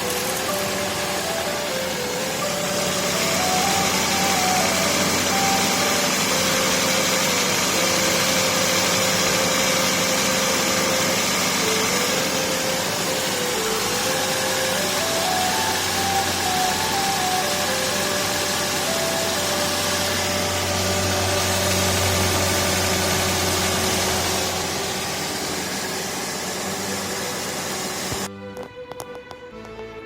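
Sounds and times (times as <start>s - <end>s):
car engine idling: 0.0s - 28.3s
simple stepping tune: 0.0s - 30.0s.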